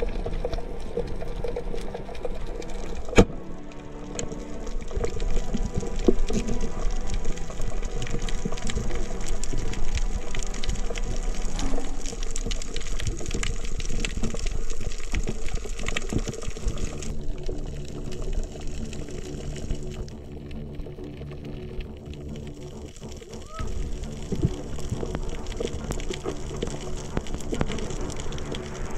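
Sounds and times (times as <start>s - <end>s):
fast crackling clicks: 0.0s - 28.9s
low steady tones: 0.0s - 28.9s
underwater water rush: 0.0s - 28.9s.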